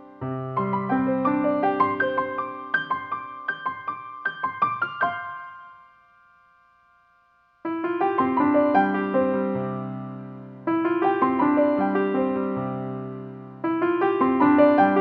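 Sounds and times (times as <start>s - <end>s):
easy-listening piano music: 0.0s - 6.4s, 7.6s - 15.0s.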